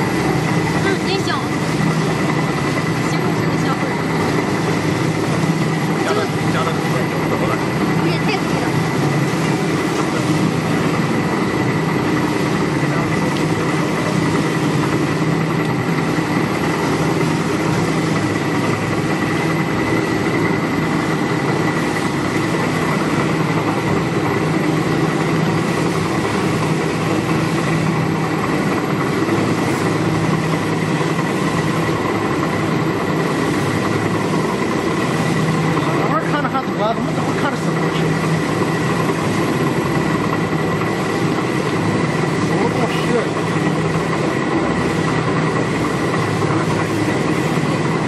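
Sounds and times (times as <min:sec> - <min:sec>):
cooking kettle stirring motor drone: 0:00.0 - 0:48.0
thin steady whine: 0:00.0 - 0:48.0.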